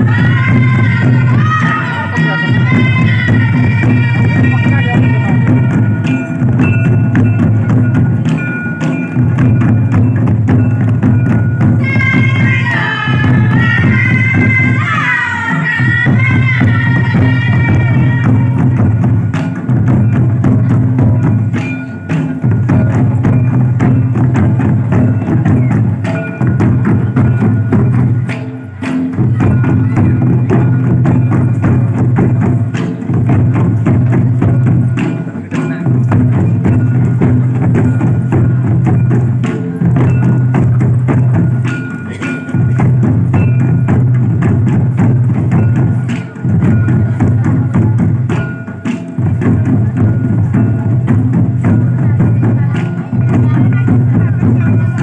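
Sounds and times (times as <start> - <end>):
low booming drum: 0.0 - 15.0, 15.8 - 55.0
barrel drums dance rhythm: 0.0 - 55.0
kettle drum beaten with sticks: 0.0 - 55.0.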